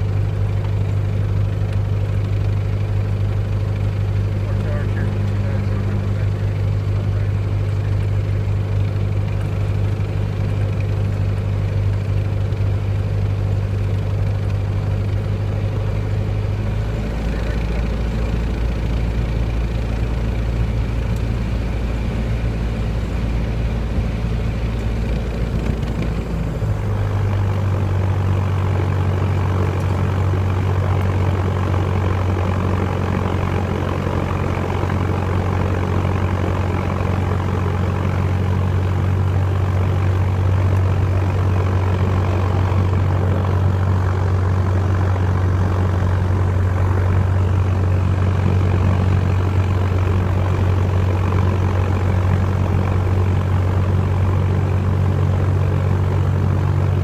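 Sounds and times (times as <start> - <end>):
aircraft engine and propeller: 0.0 - 57.0.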